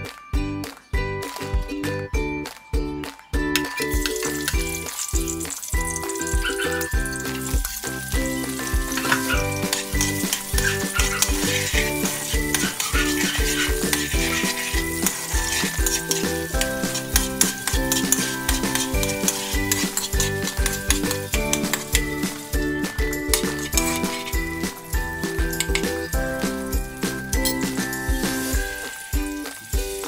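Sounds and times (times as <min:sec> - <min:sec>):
background music with a beat: 0:00.0 - 0:30.0
garlic and onions sizzling in oil: 0:03.5 - 0:30.0
spatula scraping a wok: 0:04.0 - 0:30.0.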